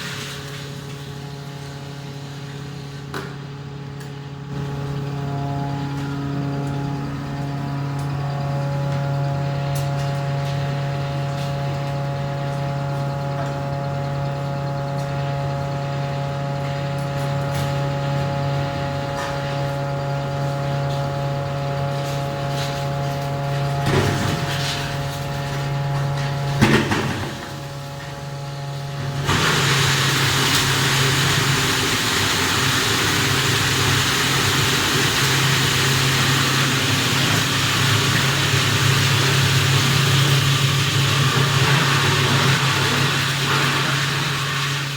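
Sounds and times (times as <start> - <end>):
ice crusher motor hum: 0.0 - 44.9.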